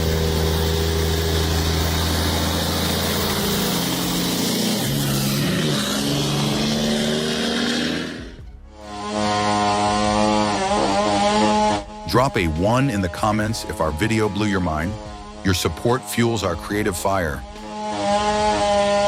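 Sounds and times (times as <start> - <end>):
car engine downshifting: 0.0 - 19.0.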